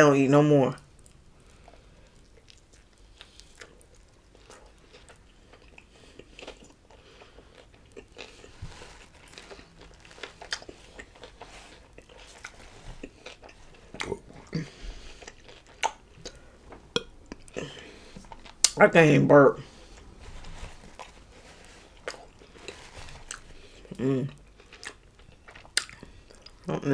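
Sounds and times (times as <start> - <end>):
chewing with wet mouth clicks: 0.8 - 18.8, 21.9 - 26.7.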